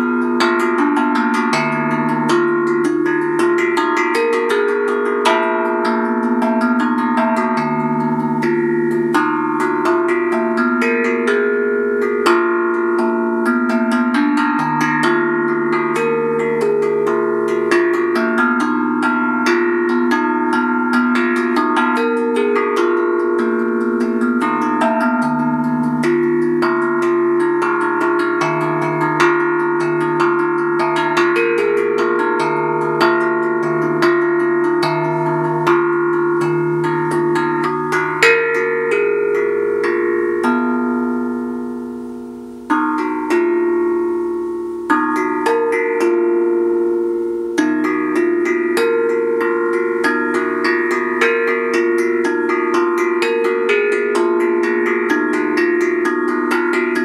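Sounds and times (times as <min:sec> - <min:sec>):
handpan played with fingers: 0:00.0 - 0:57.0.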